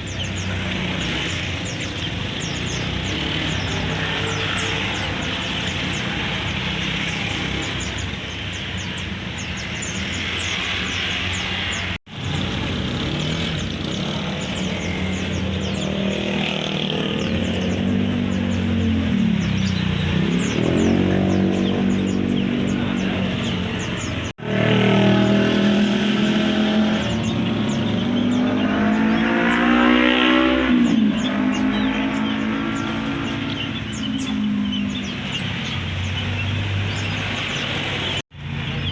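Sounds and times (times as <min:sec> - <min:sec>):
vehicles passing and revving: 0:00.0 - 0:38.9.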